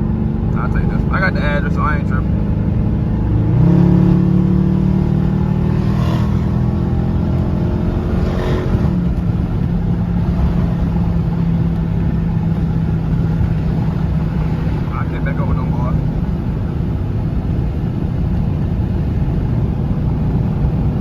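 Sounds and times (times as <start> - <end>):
car engine accelerating: 0.0 - 21.0
road noise inside car: 0.0 - 21.0.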